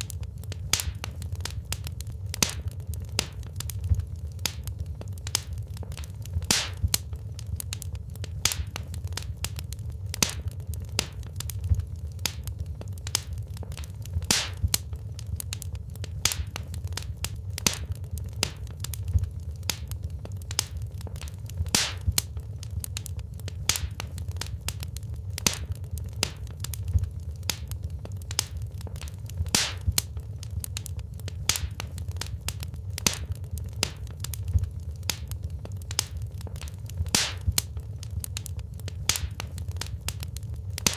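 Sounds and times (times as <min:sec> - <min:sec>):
burning logs popping and snapping: 0:00.0 - 0:40.9
low rumble of flames: 0:00.0 - 0:40.9.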